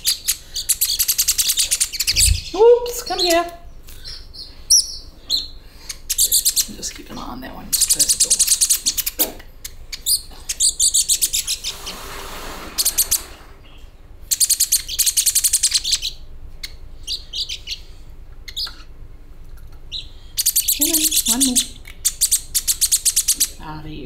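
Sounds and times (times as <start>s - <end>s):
baby birds chirping begging calls: 0.0s - 12.0s, 12.8s - 19.0s, 19.9s - 24.0s.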